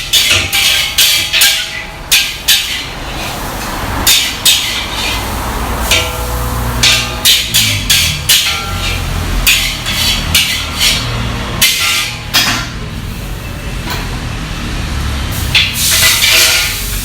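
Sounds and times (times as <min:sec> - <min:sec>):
metal spatula scraping a wok: 0:00.0 - 0:12.7, 0:15.6 - 0:17.0.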